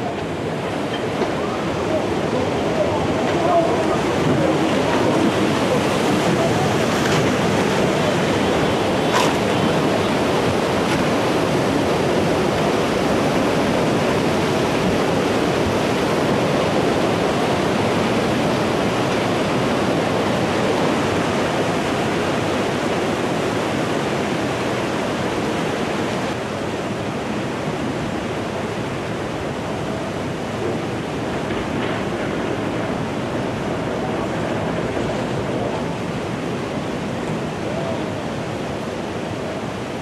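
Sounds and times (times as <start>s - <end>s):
floodwater rushing torrent: 0.0s - 40.0s.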